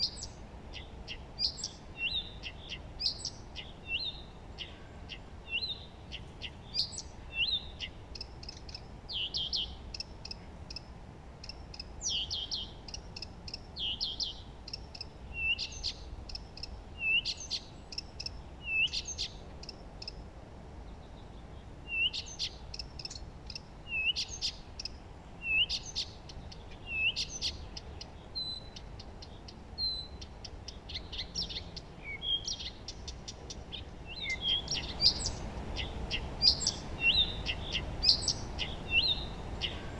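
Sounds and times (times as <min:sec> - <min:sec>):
faint low background noise: 0:00.0 - 0:39.9
songbirds chirping and trilling: 0:00.0 - 0:39.9.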